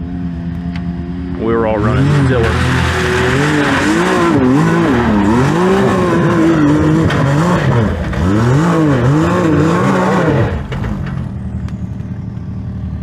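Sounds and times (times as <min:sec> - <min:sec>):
engine revving unevenly: 0:00.0 - 0:13.0.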